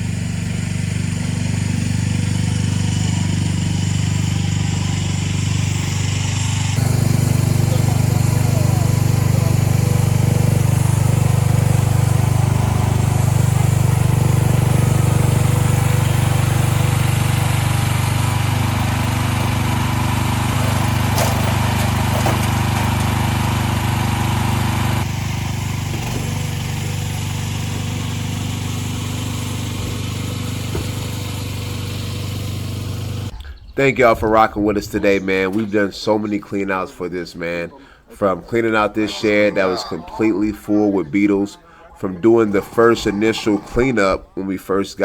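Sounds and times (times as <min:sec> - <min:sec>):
small engine humming: 0:00.0 - 0:33.7, 0:38.7 - 0:44.2.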